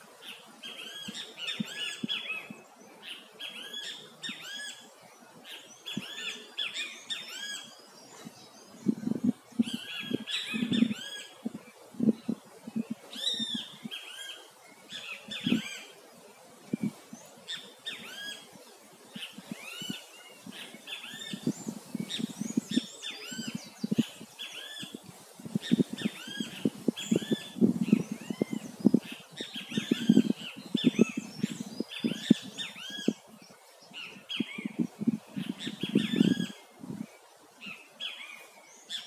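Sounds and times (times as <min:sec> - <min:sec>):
birds chirping: 0:00.2 - 0:39.0.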